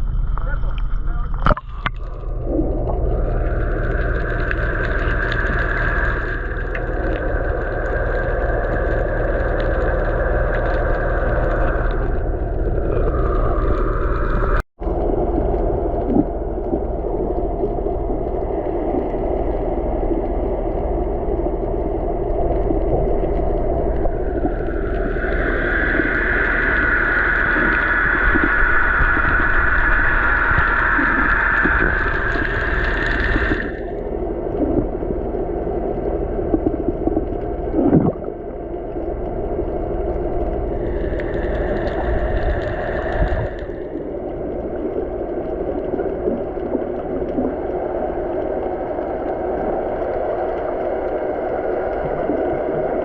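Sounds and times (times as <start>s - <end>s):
water rushing: 0.0s - 53.0s.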